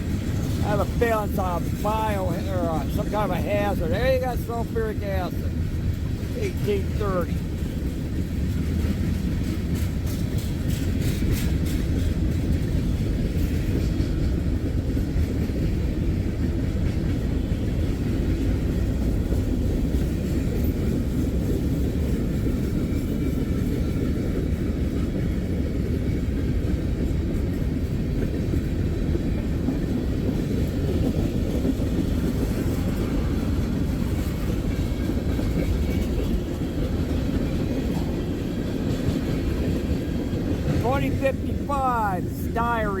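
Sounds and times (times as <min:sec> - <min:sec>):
sharp clicks of train wheels: 0:00.0 - 0:42.6
train wheels rumbling on rail: 0:00.0 - 0:43.0.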